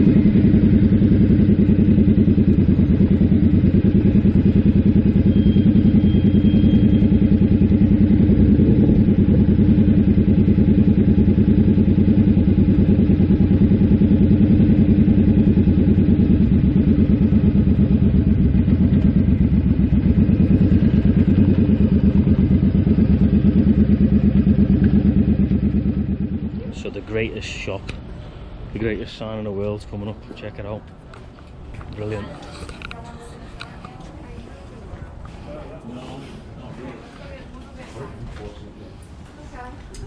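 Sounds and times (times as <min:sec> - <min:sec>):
motorcycle engine running: 0:00.0 - 0:35.3.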